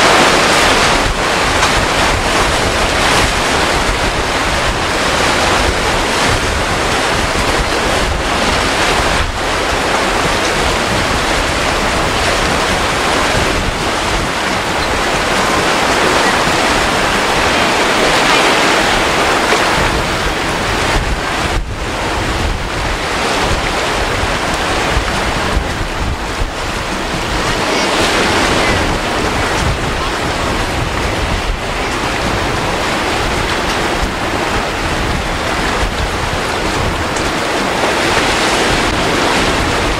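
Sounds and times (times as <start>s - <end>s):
surf washing in: 0.0s - 39.9s
wind buffeting microphone: 0.0s - 39.9s.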